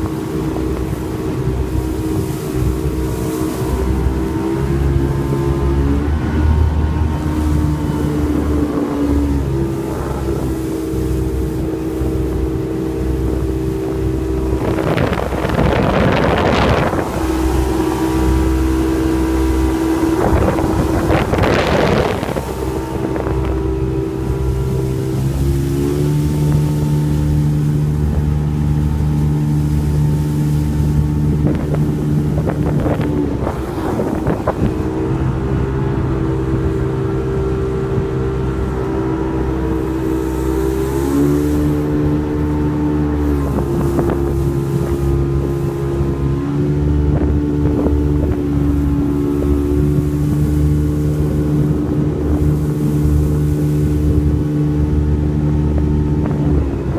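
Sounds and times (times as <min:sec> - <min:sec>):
motorboat engine running: 0:00.0 - 0:56.9.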